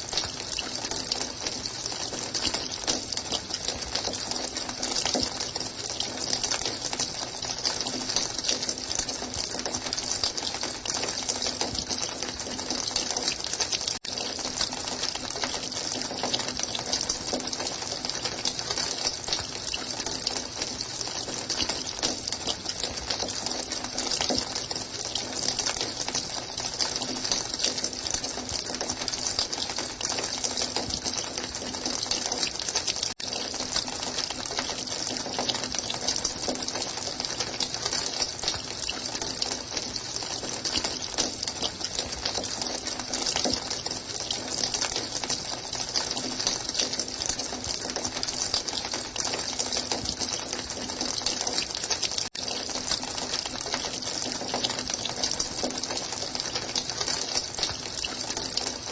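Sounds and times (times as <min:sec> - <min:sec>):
running water splashing: 0:00.0 - 0:58.9.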